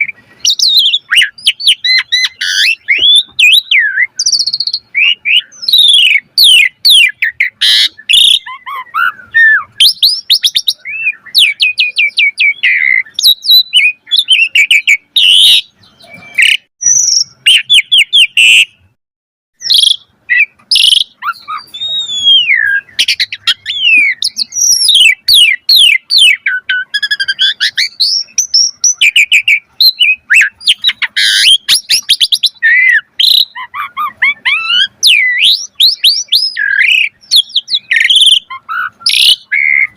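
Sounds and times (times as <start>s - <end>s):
starling singing: 0.0s - 19.0s, 19.6s - 39.9s.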